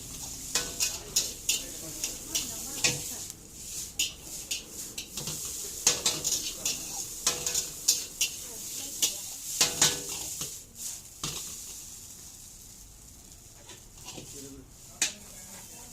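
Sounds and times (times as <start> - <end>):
metal utensil scraping a pan: 0.0 - 11.8, 13.6 - 15.9
food sizzling: 0.0 - 15.9.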